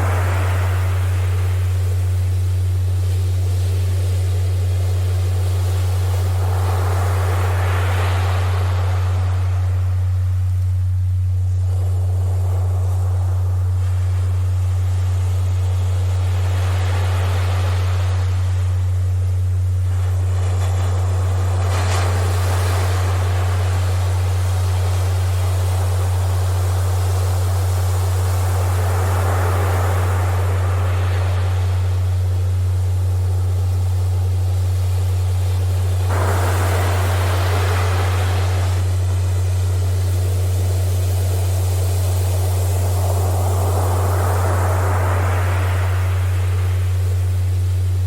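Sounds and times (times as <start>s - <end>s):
ocean surf washing: 0.0s - 48.0s
steady low pure tone: 0.0s - 48.0s.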